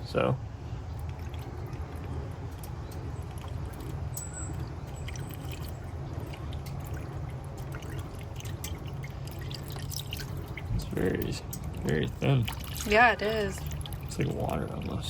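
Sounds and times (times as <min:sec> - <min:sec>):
liquid trickling and dripping: 0:00.0 - 0:15.0
steady low hum: 0:00.0 - 0:15.0.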